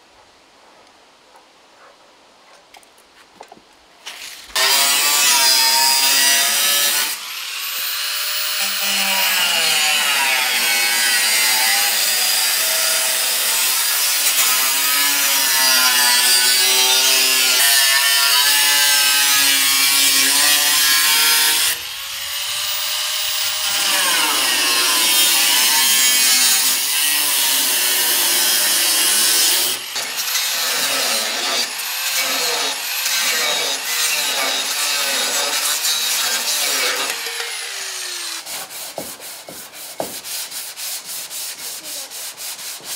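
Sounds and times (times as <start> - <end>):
angle grinder cutting steel: 4.1 - 38.8.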